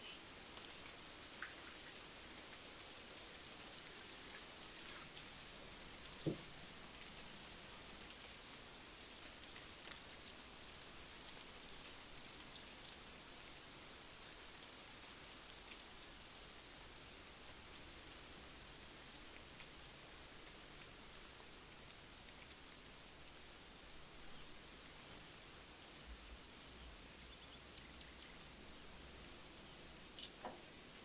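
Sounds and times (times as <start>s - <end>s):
light rain pattering: 0.0s - 31.0s.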